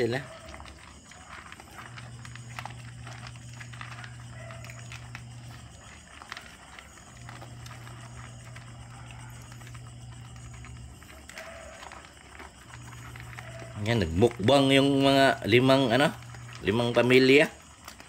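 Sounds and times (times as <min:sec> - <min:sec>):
puppies crunching kibble: 0:00.0 - 0:18.0.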